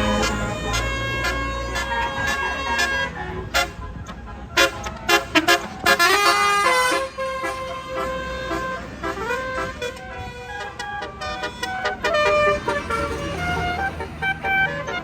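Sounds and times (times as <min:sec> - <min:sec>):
bus horn playing a melody: 0:00.0 - 0:15.0.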